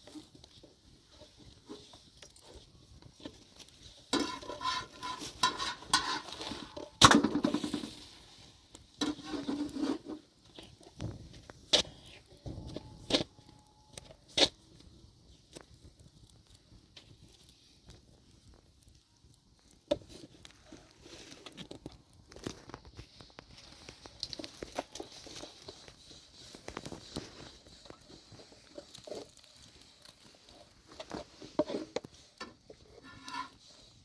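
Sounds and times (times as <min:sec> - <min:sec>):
rustling and crunching handling: 0:00.0 - 0:34.0.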